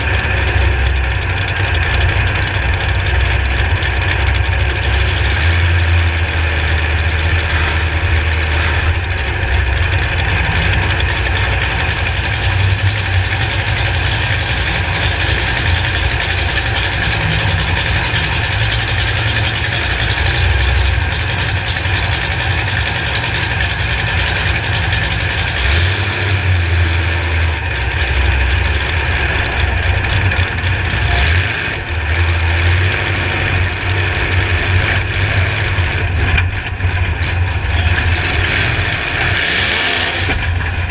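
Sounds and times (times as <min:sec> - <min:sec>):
car engine running loudly: 0:00.0 - 0:40.9.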